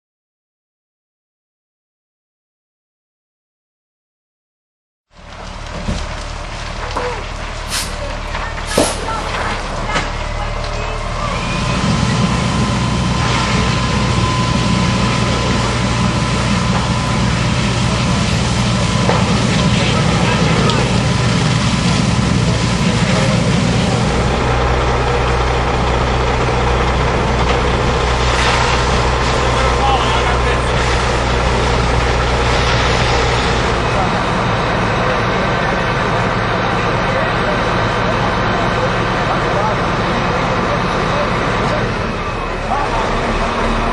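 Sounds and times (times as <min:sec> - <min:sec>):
truck engine idling: 0:05.1 - 0:43.9
broad rushing noise: 0:07.1 - 0:43.9.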